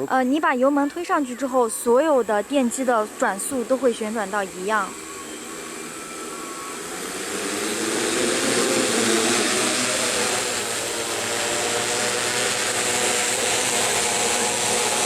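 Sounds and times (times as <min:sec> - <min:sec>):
drone motors and propellers whirring: 0:00.0 - 0:15.0.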